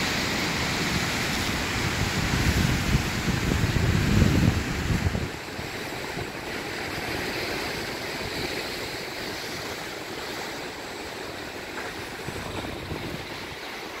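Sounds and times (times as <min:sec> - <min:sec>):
surf breaking over rocks: 0:00.0 - 0:14.0
wind rumbling on microphone: 0:00.0 - 0:14.0.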